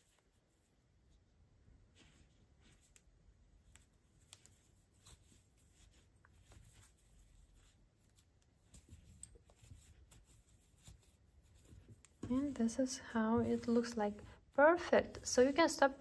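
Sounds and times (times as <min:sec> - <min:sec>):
crochet cord rustling: 0:00.0 - 0:16.0.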